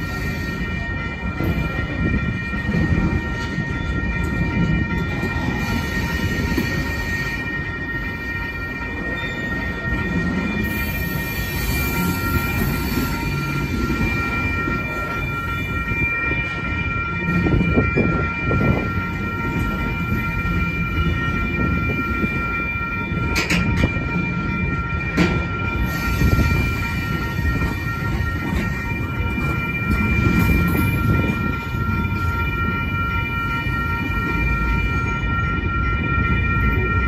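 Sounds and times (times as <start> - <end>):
high-pitched ringing: 0.0 - 37.0
train wheels rumbling on rail: 0.0 - 37.0.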